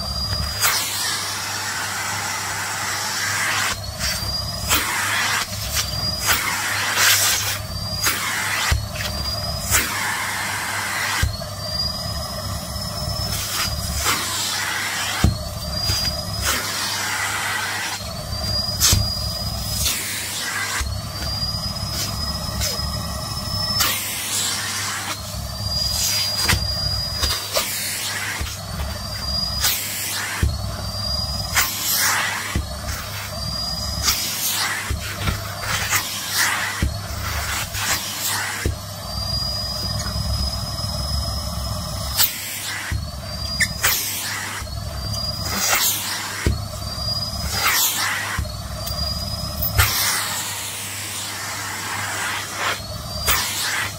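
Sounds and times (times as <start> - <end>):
high thin whistle: 0.0 - 53.9
vacuum cleaner running: 0.0 - 53.9.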